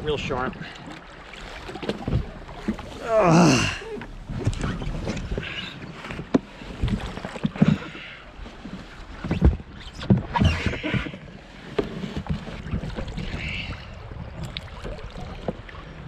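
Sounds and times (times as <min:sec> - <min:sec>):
knocks and thumps from boat: 0:00.0 - 0:16.0
paddle blades splashing water: 0:00.0 - 0:16.0.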